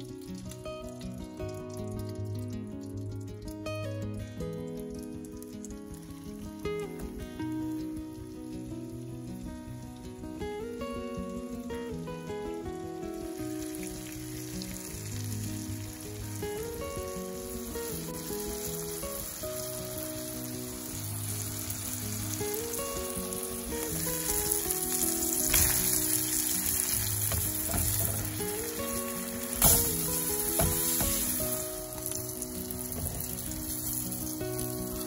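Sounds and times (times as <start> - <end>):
food sizzling in a pan: 0.0 - 35.0
gentle background melody: 0.0 - 35.0.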